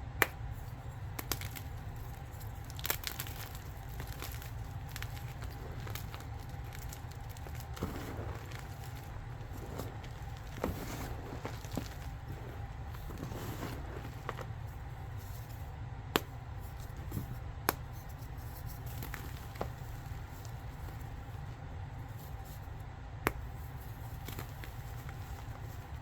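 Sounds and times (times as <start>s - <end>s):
steady low hum: 0.0s - 26.0s
chalk crumbling and cracking: 0.2s - 26.0s.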